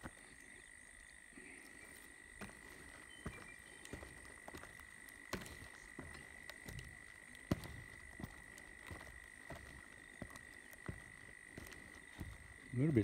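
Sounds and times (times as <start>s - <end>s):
footsteps on timber sleepers: 0.0s - 0.6s, 1.5s - 13.0s.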